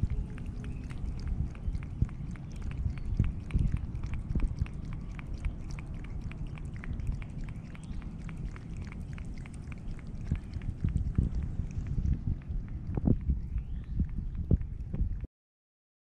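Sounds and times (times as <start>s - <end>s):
cat lapping water: 0.0s - 15.3s
steady low rumble: 0.0s - 15.3s.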